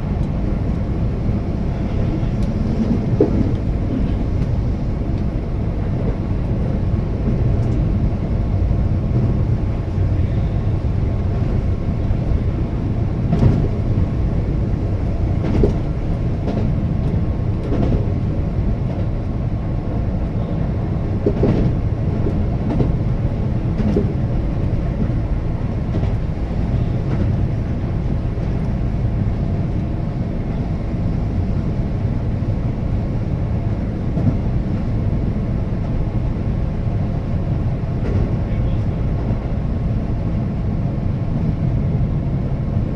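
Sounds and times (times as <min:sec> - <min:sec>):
train wheels rumbling: 0:00.0 - 0:42.9.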